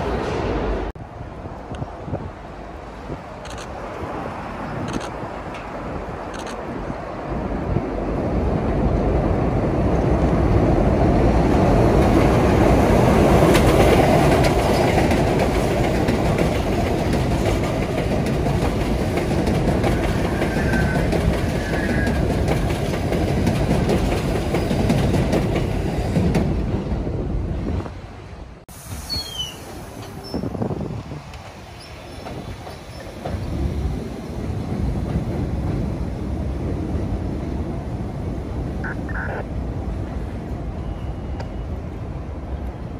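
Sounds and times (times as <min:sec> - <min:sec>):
subway train on rails: 0:00.0 - 0:42.9.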